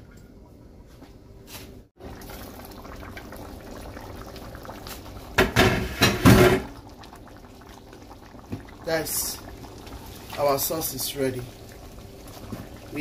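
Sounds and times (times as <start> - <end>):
sauce bubbling in a pot: 2.0 - 13.0.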